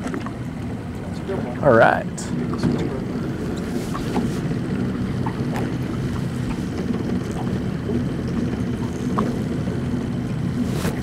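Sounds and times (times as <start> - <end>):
outboard motor idling: 0.0 - 11.0
wind on microphone: 1.0 - 11.0.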